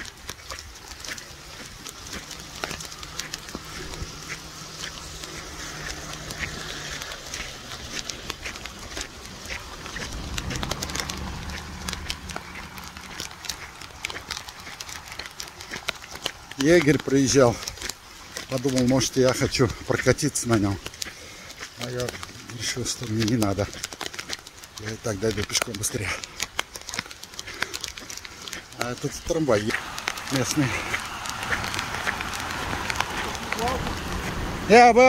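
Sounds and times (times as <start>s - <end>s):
raindrops tapping near microphone: 0.0s - 35.0s
torrential rain hissing: 0.0s - 35.0s.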